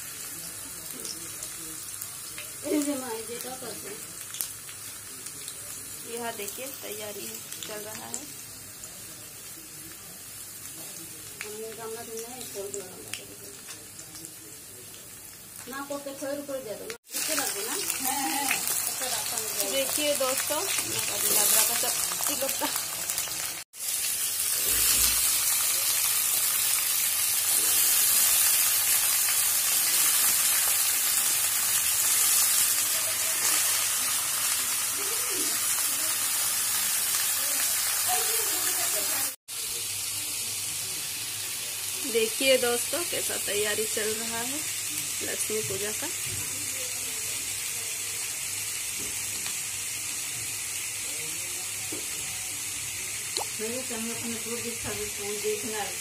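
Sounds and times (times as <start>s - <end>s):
vegetables sizzling in hot oil: 0.0s - 56.0s.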